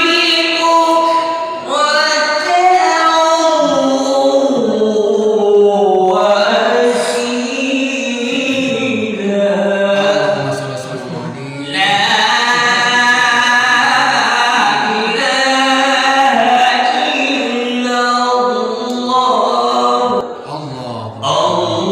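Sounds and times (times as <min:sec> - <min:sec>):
person singing chant-like melody: 0:00.0 - 0:21.9.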